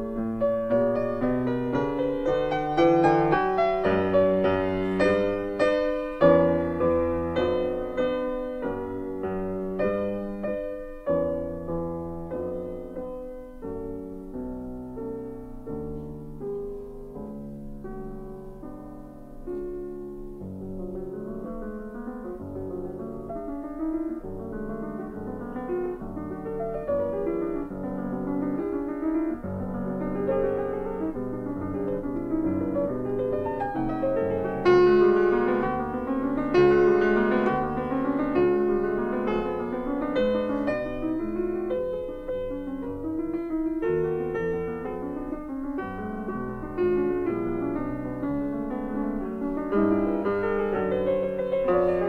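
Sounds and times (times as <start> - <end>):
slow piano melody: 0.0 - 52.0.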